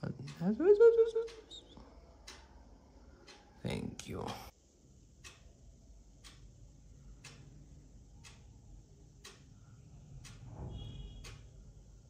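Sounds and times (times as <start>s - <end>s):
clock ticking: 0.0s - 4.4s, 5.2s - 10.5s, 11.1s - 12.0s.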